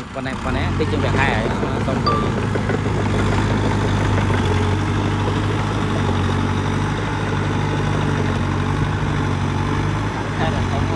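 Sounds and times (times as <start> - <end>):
heavy diesel engine idling: 0.0 - 10.9.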